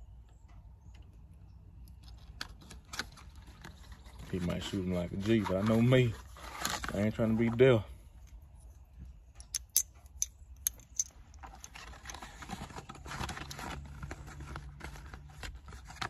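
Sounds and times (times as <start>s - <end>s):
rustling of handled items: 2.0s - 16.0s.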